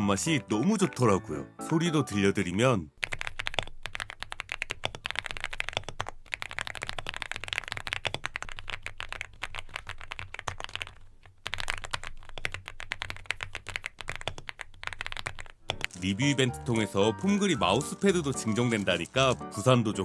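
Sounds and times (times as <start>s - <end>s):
mechanical keyboard typing: 3.0s - 19.7s.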